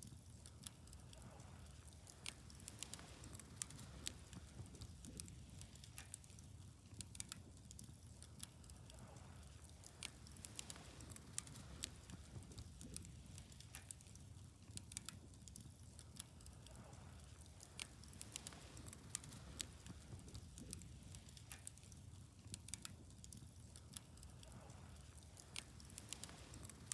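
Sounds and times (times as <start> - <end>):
bonfire crackling and popping: 0.0 - 26.9
faint low rumble: 0.0 - 26.9.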